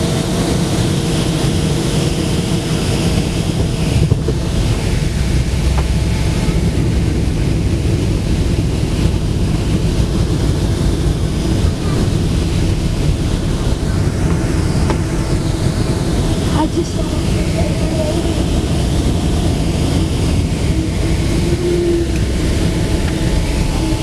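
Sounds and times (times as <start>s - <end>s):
airplane cabin rumble: 0.0s - 24.0s
faint engine hum: 0.0s - 24.0s.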